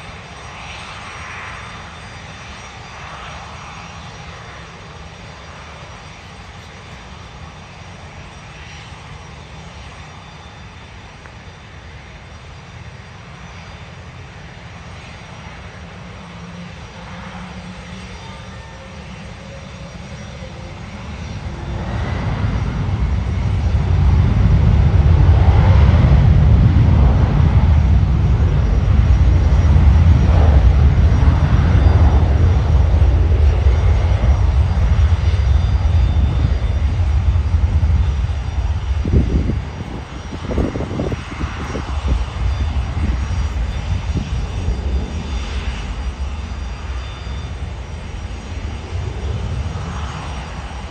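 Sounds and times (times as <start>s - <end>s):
jet engines rumbling past: 0.0s - 50.9s.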